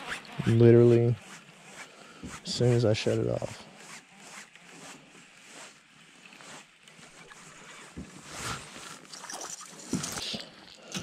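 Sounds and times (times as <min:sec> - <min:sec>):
fishing reel noise: 0:00.0 - 0:11.0
water swirl: 0:00.0 - 0:11.0.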